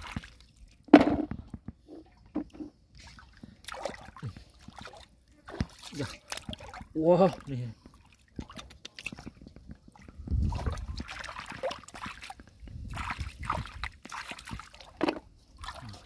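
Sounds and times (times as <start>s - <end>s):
splashing in shallow water and mud: 0.0s - 16.0s.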